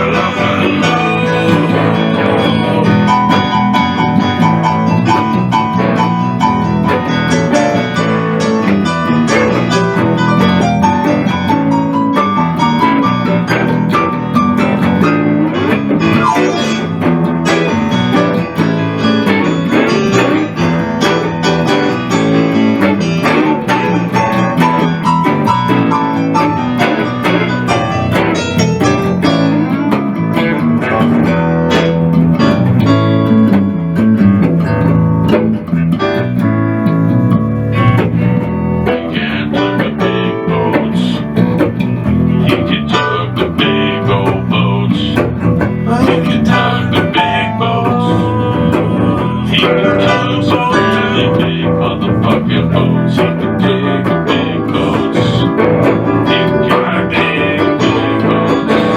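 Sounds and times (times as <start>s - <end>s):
bass line: 0.0s - 58.9s
plucked guitar: 0.0s - 58.9s.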